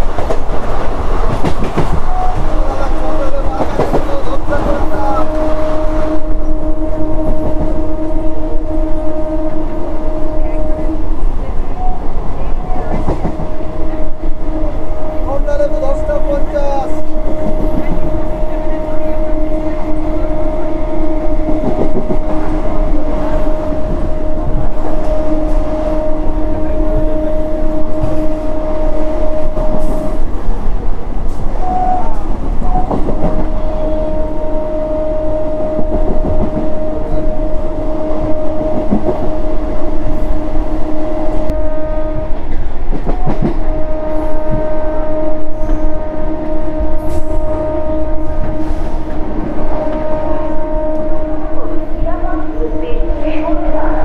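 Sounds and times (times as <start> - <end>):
train rumbling on track: 0.0 - 54.0
train horn blasts: 1.9 - 30.5, 31.5 - 54.0.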